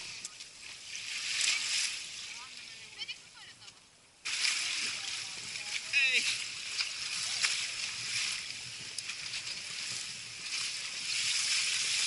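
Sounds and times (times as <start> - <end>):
water sloshing: 0.0 - 3.6, 4.2 - 12.0.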